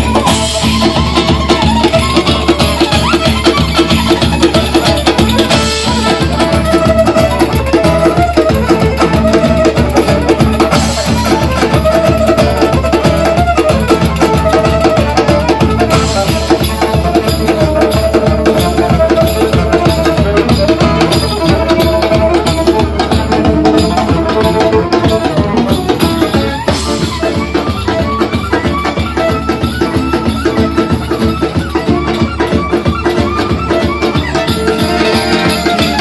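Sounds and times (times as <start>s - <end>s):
guitar: 0.0s - 36.0s
steady drum beat: 0.0s - 36.0s.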